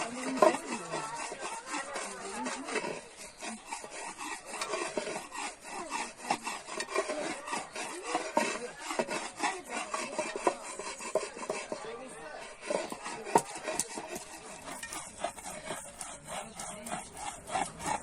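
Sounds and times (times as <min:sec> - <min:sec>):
food rasping on hand grater: 0:00.0 - 0:18.0.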